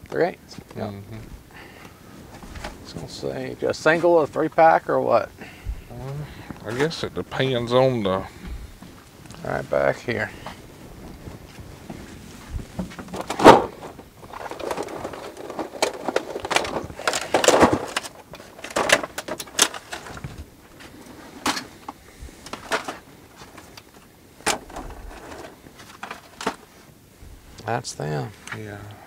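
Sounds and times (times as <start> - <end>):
rustling and clatter: 1.2 - 4.3, 5.5 - 27.6.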